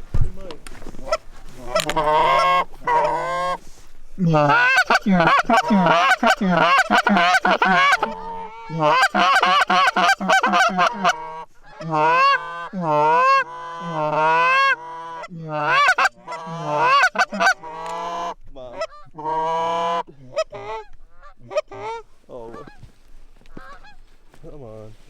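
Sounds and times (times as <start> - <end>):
goose call clucks and honks: 1.0 - 24.1.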